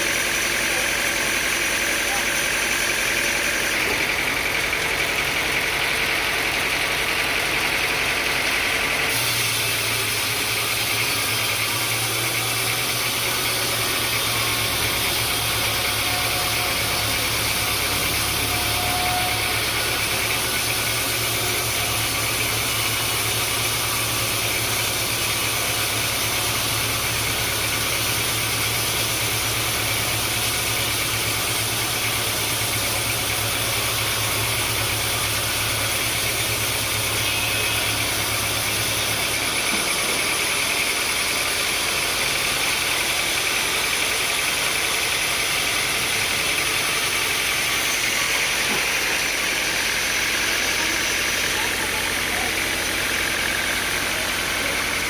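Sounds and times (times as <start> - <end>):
sawmill machinery engine running: 0.0 - 55.0.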